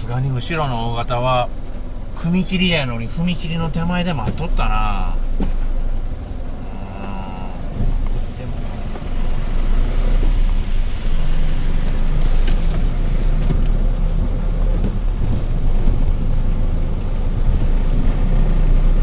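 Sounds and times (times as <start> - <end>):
road noise: 0.0 - 19.0
vehicle engine humming: 0.0 - 19.0.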